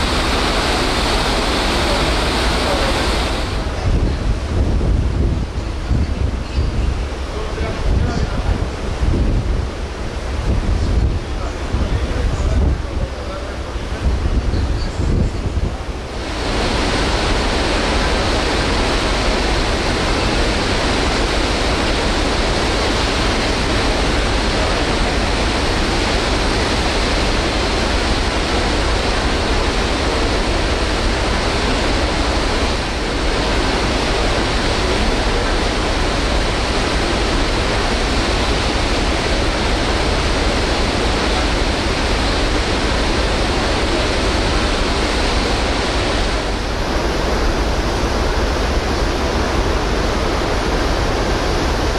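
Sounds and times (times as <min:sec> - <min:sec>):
choppy sea: 0:00.0 - 0:51.9.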